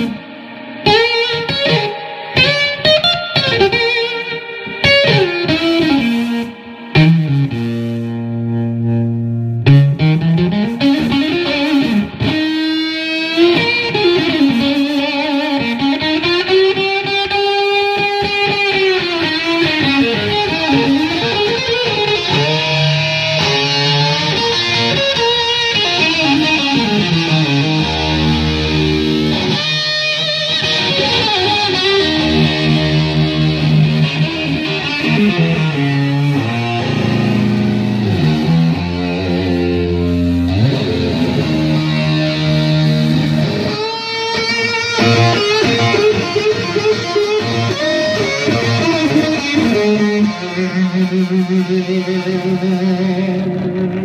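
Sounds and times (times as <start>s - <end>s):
fuzzed electric guitar: 0.0s - 54.0s.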